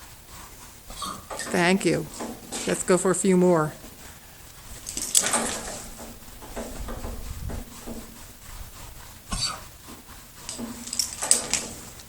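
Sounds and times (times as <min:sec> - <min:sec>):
horse hiccupping: 0:00.5 - 0:02.8, 0:03.8 - 0:12.0.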